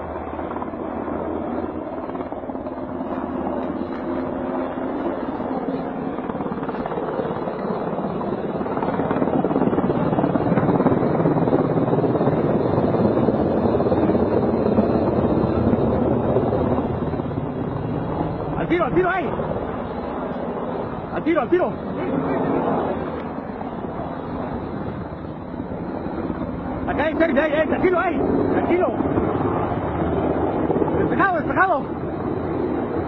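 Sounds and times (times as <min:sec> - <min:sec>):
helicopter rotor and engine: 0:00.0 - 0:33.0.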